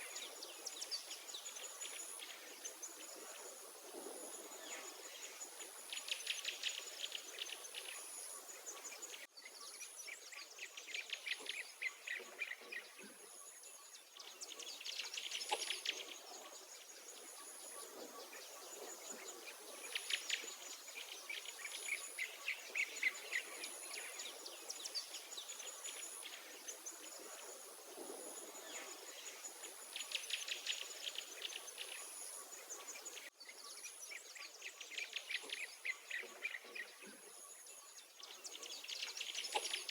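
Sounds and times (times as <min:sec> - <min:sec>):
songbirds singing trilled songs: 0:00.0 - 0:39.9.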